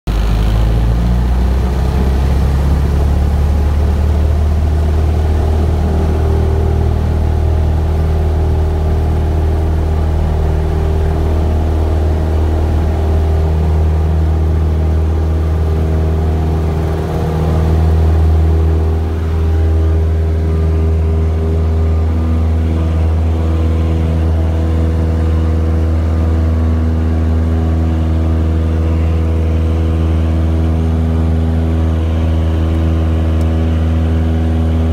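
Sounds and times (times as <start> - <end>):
airplane engine and propeller: 0.1 - 34.9.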